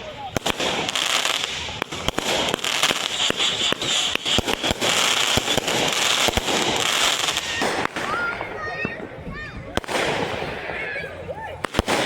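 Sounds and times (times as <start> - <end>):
fireworks crackling hiss: 0.0 - 11.0
fireworks bangs: 0.0 - 12.0.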